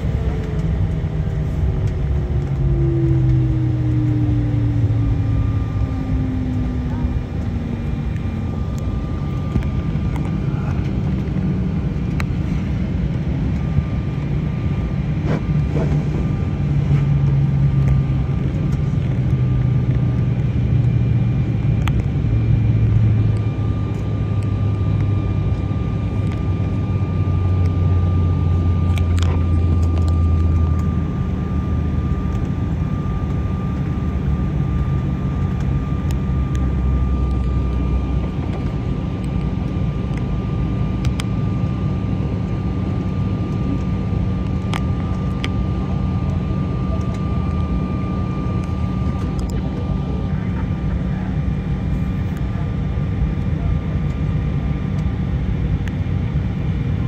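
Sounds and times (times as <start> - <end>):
low hum falling in pitch: 0.0 - 51.6
jet engine rumble in cabin: 0.0 - 57.0
thin steady whine: 0.0 - 57.0.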